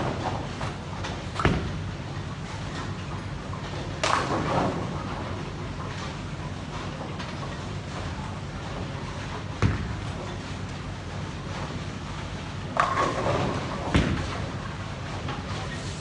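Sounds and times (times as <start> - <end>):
rumble of bowling hall: 0.0 - 16.0.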